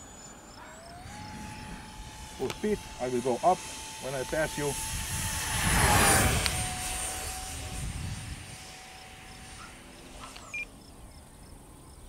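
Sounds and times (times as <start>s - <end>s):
model jet fans whining: 0.0s - 12.0s.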